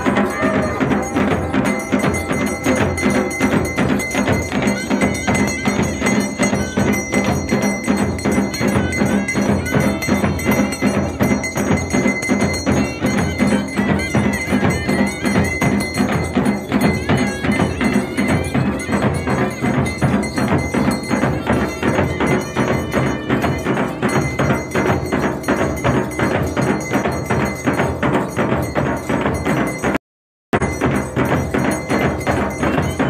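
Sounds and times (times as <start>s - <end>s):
ringing bells: 0.0s - 30.0s, 30.6s - 33.0s
rapid drumming: 0.0s - 33.0s.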